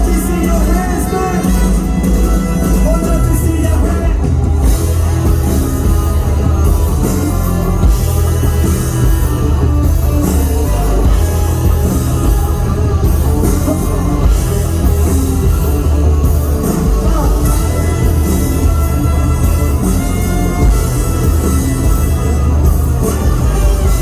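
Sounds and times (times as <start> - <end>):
bass guitar: 0.0 - 24.0
drum kit: 0.0 - 24.0
electric guitar: 0.0 - 24.0.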